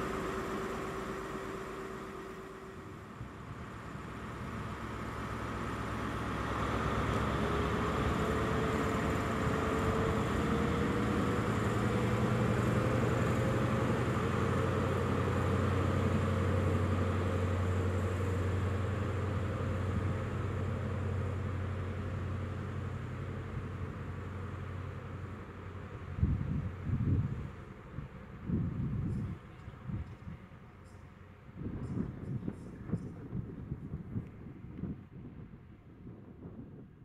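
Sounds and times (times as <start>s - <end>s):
rising engine whine: 0.0s - 30.1s
diesel engine drone: 0.0s - 37.0s.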